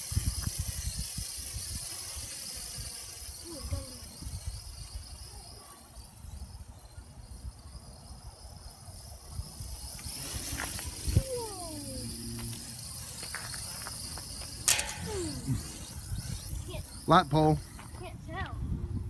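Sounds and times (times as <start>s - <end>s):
drone motors buzzing: 0.0s - 18.3s.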